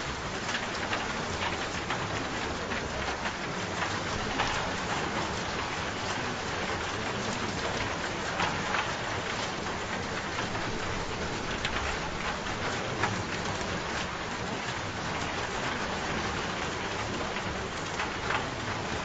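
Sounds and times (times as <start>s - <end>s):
raindrops splashing: 0.0s - 19.0s
steady rain falling: 0.0s - 19.0s.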